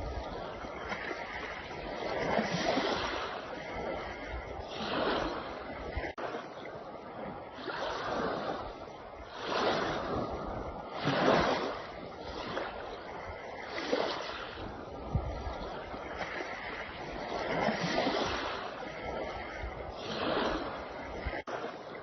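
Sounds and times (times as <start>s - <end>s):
small waves washing on shore: 0.0s - 22.0s.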